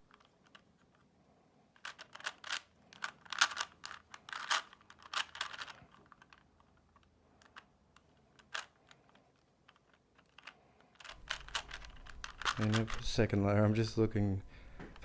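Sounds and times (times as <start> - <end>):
puzzle cube turning clicks: 0.0 - 1.0, 1.7 - 13.4.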